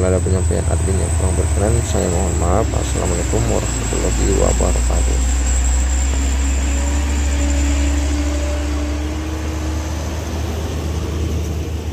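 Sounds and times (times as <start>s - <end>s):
faint engine tone: 0.0s - 11.9s
truck diesel engine under load: 0.0s - 11.9s.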